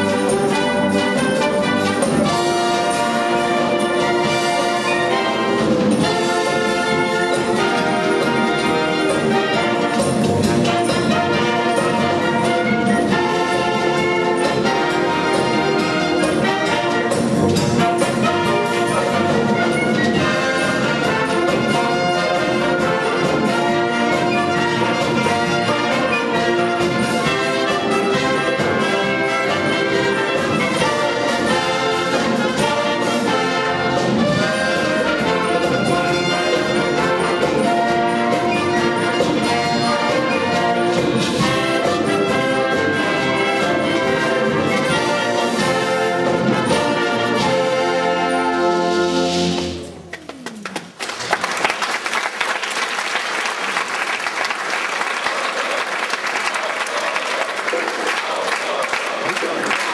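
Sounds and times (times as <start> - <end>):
trumpets: 0.0 - 50.4
trombones: 0.0 - 50.9
wind band playing live: 0.0 - 59.9.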